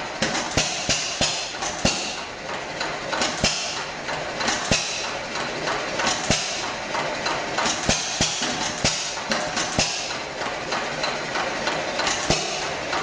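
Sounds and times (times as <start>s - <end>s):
engine clicking and clatter: 0.0s - 13.0s.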